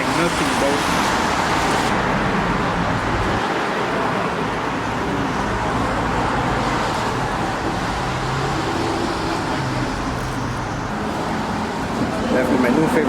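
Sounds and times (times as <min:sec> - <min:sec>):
road traffic passing cars: 0:00.0 - 0:13.0.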